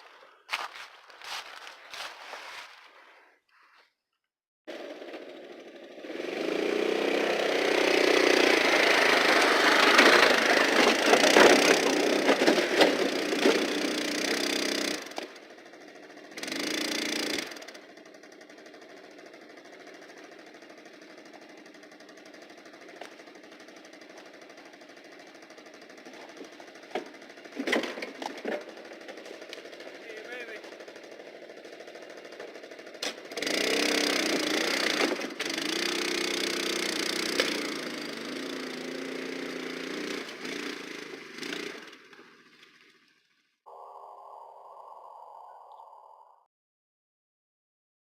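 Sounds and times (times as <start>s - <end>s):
chainsaw engine running: 0.0s - 3.3s, 4.7s - 42.4s, 43.7s - 46.4s.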